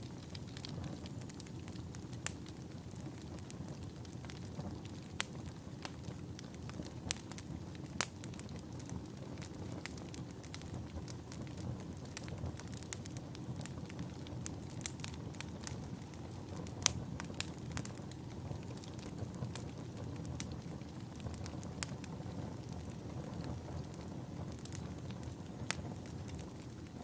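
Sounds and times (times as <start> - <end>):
log fire crackling and popping: 0.0 - 27.0
low fire rumble: 0.0 - 27.0.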